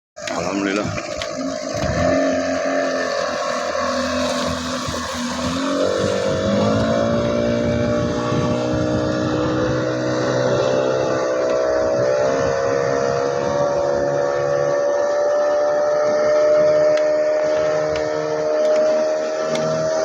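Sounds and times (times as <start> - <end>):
speedboat engine revving: 0.2 - 20.0.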